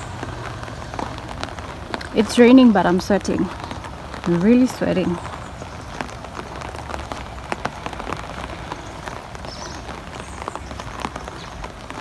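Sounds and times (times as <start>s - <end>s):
rain falling: 0.0s - 12.0s
sharp raindrop ticks: 0.0s - 12.0s.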